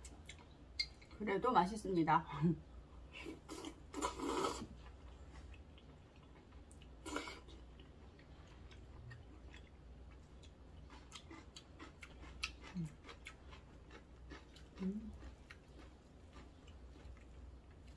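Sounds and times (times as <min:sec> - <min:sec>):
wet chewing of noodles: 0:03.2 - 0:17.9.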